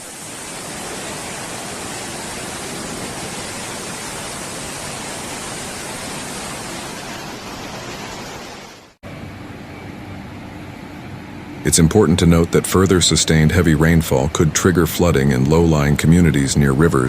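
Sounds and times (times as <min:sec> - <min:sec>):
rushing water: 0:00.0 - 0:09.0, 0:11.7 - 0:17.0.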